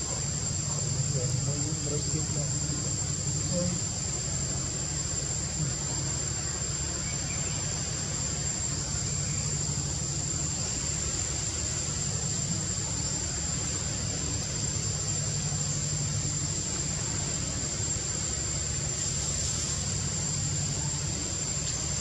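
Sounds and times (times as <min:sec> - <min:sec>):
insects droning in trees: 0:00.0 - 0:22.0
low steady rumble: 0:00.0 - 0:22.0.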